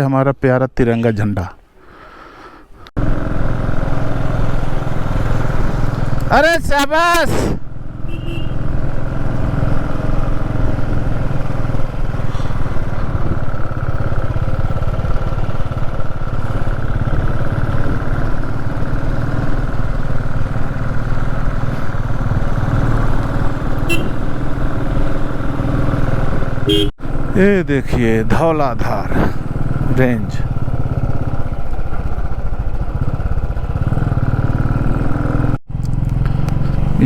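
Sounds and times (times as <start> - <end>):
motorcycle engine running: 3.0 - 6.9, 7.6 - 37.0.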